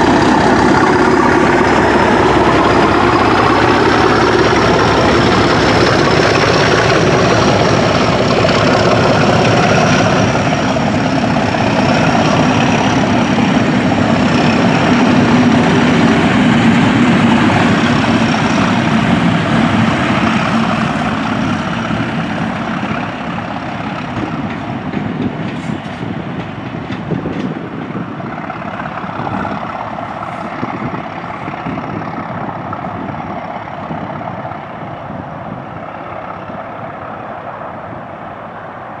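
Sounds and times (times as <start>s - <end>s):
diesel locomotive engine: 0.0s - 39.0s
train wheels on rails: 0.0s - 39.0s.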